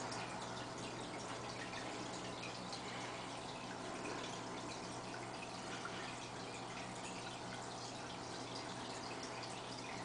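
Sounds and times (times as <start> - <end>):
low steady hum: 0.0 - 10.0
water trickling and dripping: 0.0 - 10.0.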